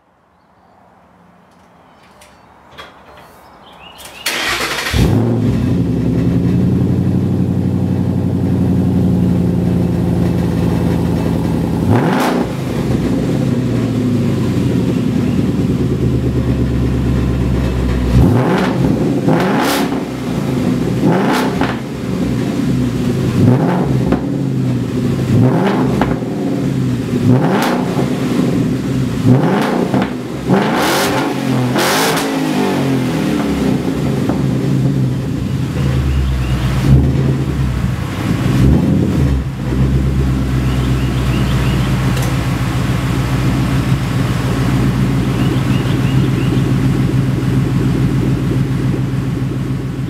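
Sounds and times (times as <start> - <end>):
car engine starting: 3.9 - 50.0
car engine idling: 4.3 - 30.7, 32.8 - 50.0
car engine revving: 4.3 - 50.0.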